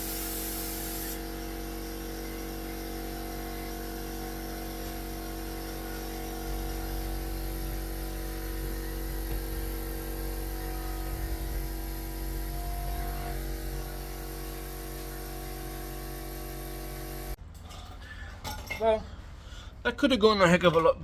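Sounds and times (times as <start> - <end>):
air compressor humming: 0.0 - 17.4
spray gun hissing: 0.0 - 17.4.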